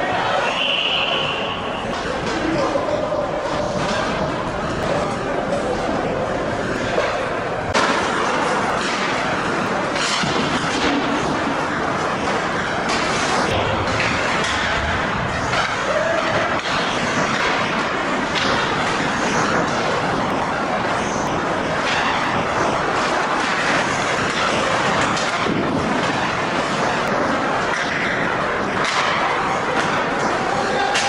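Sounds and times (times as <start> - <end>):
skates on ice: 0.0 - 31.0.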